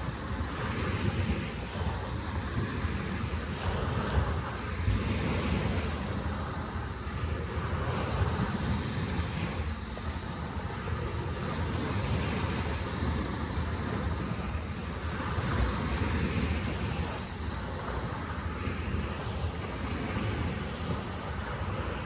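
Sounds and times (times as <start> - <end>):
ocean waves rushing: 0.0 - 22.0
wind on microphone: 0.0 - 22.0.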